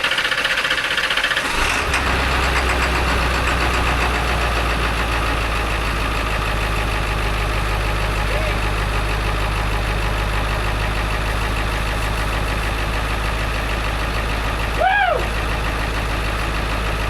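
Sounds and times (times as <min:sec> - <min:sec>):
diesel engine starting and idling: 0:00.0 - 0:17.0.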